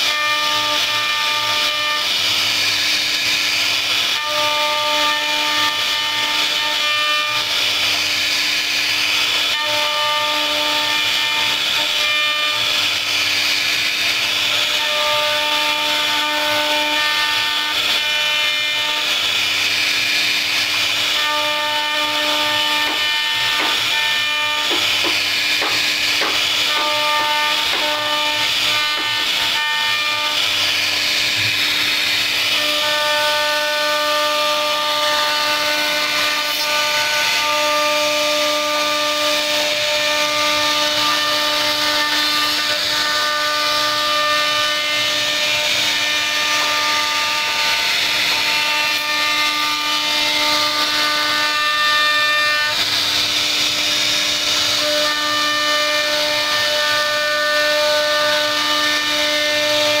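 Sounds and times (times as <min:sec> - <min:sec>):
rasping wood cutting: 0:00.0 - 1:00.0
router spindle whining: 0:00.0 - 1:00.0.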